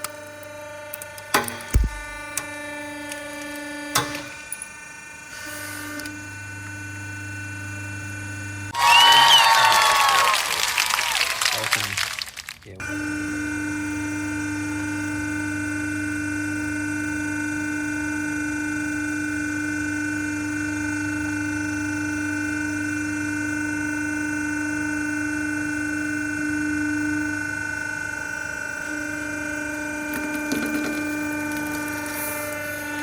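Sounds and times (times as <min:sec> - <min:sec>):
steady machine hum: 0:00.0 - 0:10.4, 0:12.7 - 0:33.0.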